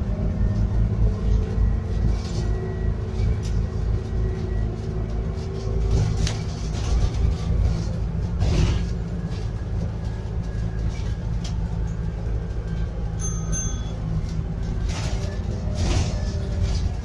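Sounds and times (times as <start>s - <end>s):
bus body rattles: 0.0s - 17.0s
bus engine drone: 0.0s - 17.0s.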